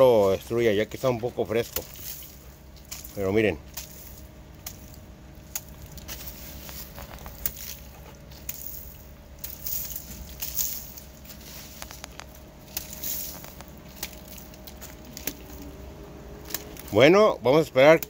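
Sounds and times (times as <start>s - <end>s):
sand pattering on wet wall: 0.0s - 15.8s.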